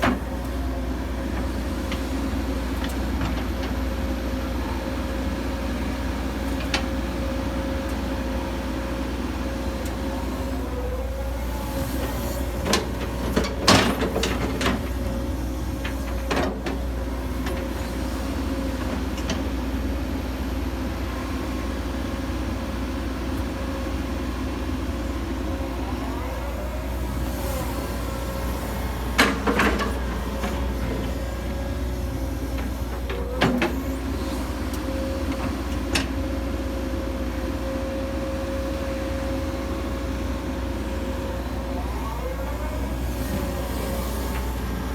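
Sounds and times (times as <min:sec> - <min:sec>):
excavator engine drone with whine: 0:00.0 - 0:44.9.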